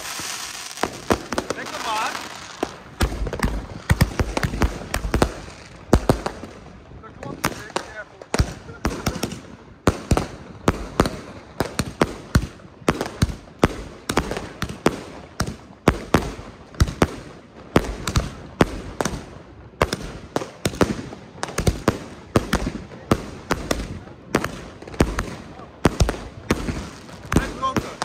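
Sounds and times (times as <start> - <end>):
fireworks bangs with echo: 0.0 - 28.0.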